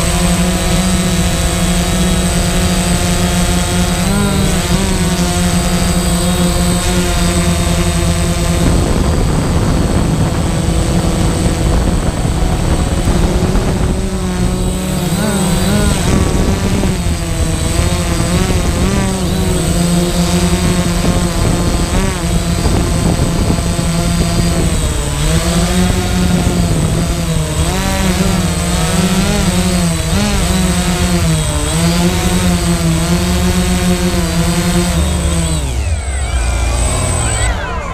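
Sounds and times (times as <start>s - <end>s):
drone motors and propellers buzzing: 0.0s - 37.9s
high whine: 0.0s - 37.9s.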